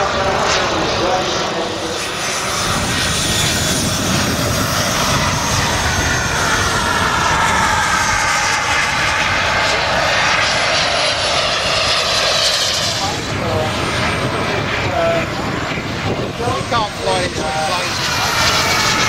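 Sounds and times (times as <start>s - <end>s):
gas-turbine engines whining: 0.0s - 19.0s.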